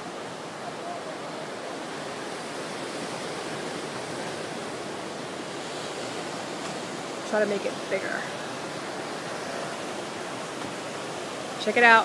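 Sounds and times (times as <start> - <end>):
ocean waves breaking on rocks: 0.0 - 12.0.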